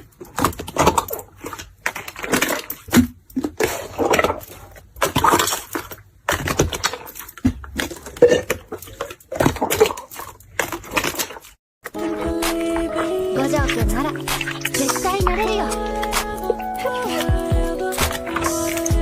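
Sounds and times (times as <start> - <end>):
slime squishing: 0.0 - 19.0.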